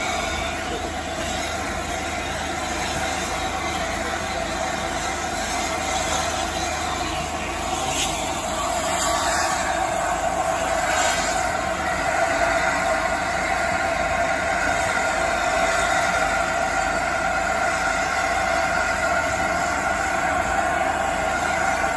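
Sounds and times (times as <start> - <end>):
steam hissing from locomotive: 0.0 - 21.9.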